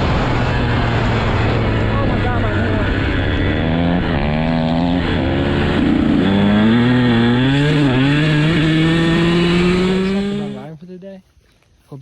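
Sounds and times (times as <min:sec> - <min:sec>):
dirt bike engine running: 0:00.0 - 0:10.7.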